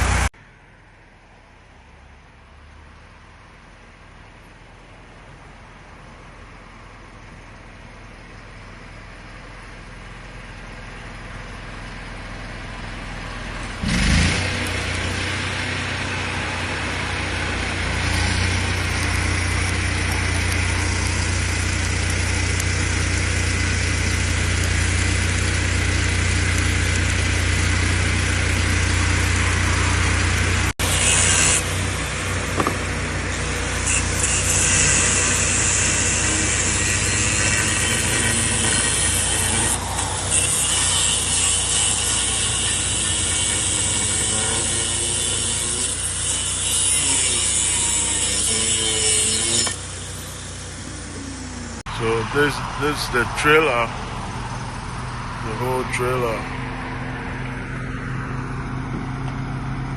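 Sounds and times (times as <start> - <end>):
engine running with low hum: 0.0 - 59.9.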